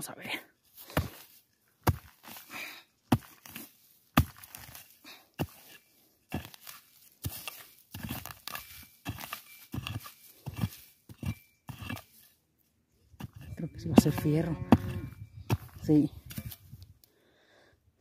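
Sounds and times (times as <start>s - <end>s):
digging tool scraping soil: 0.6s - 12.4s, 13.1s - 16.9s.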